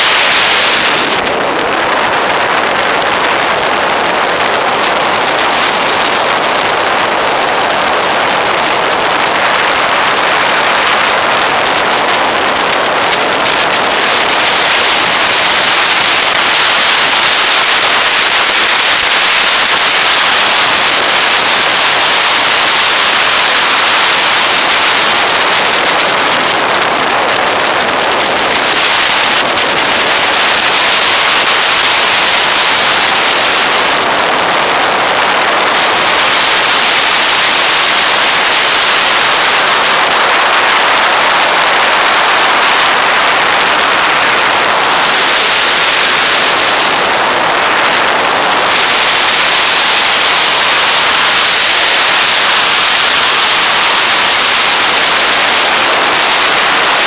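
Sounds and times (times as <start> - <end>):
wind buffeting microphone: 0.0 - 53.2
road noise: 0.0 - 57.0.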